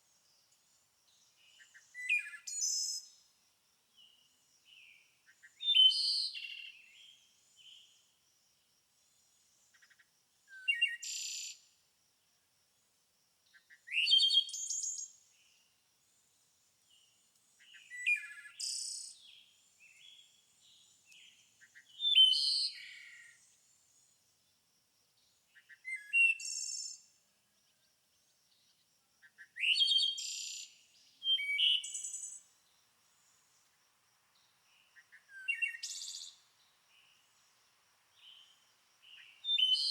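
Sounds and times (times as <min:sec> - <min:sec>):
songbird singing: 0:00.0 - 0:08.2, 0:09.3 - 0:11.8, 0:13.4 - 0:24.6, 0:25.2 - 0:39.9.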